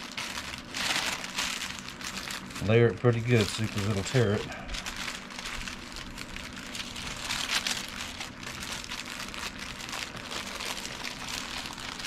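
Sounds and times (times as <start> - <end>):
wax paper crinkling: 0.0 - 12.0.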